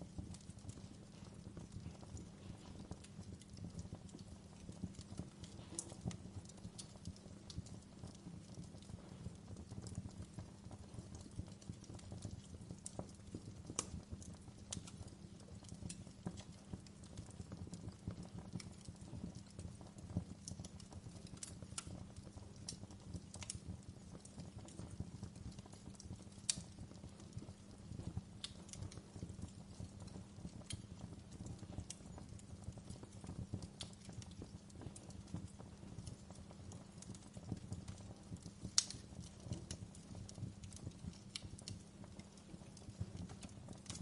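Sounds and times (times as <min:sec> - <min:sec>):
fire crackling and popping: 0:00.0 - 0:44.0
low rumble of flames: 0:00.0 - 0:44.0.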